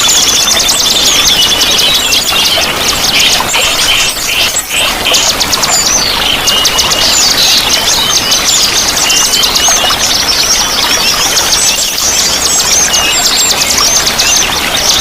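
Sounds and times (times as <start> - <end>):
flowing water: 0.0 - 15.0
songbirds chirping and trilling: 0.0 - 15.0.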